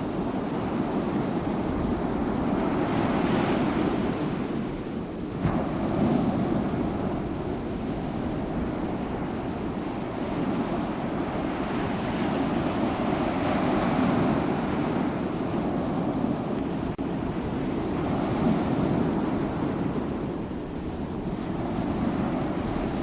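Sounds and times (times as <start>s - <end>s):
sea waves breaking on shore: 0.0s - 23.0s.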